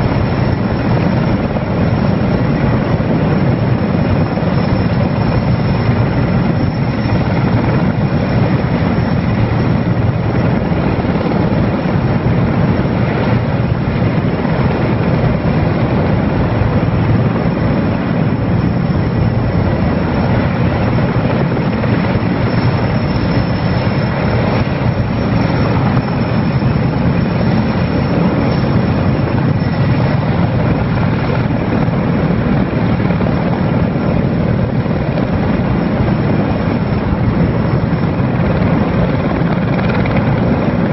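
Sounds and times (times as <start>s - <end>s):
helicopter engines and rotor: 0.0s - 40.9s.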